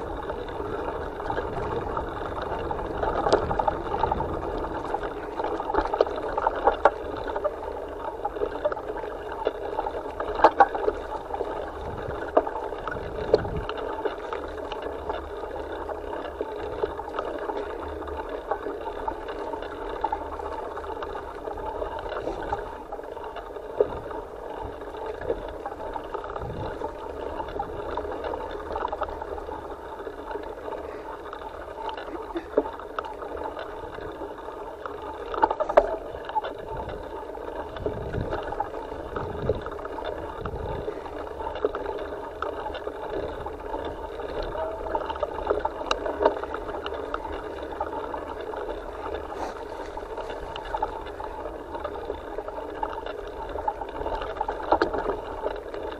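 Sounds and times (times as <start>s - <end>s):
muffled bike rumble: 0.0s - 55.9s.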